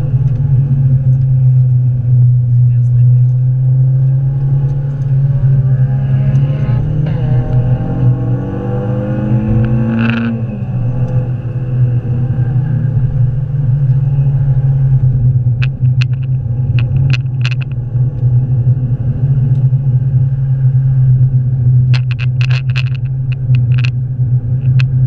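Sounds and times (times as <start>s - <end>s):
car engine at full throttle: 0.0s - 25.0s
constant low drone: 0.0s - 25.0s.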